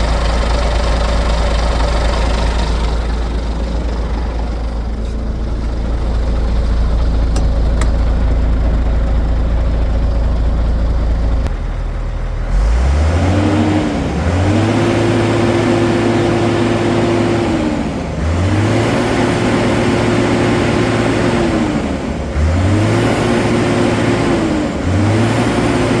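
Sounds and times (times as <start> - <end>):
truck diesel engine idling and revving: 0.0 - 26.0.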